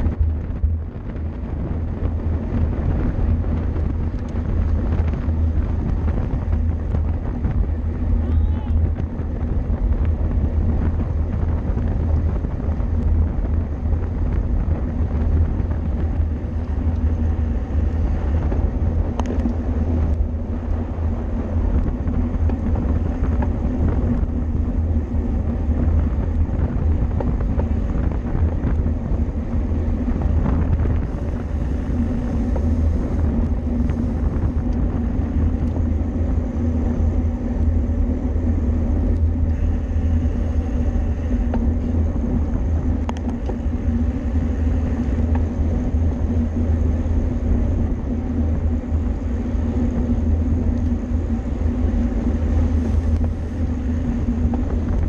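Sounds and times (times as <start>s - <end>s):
road rumble: 0.0s - 55.0s
wind rush: 0.0s - 55.0s.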